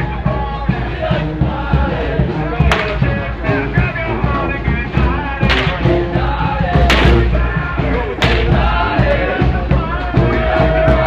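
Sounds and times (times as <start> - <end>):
heavy bass beat: 0.0 - 11.0
parade band music: 0.0 - 11.0.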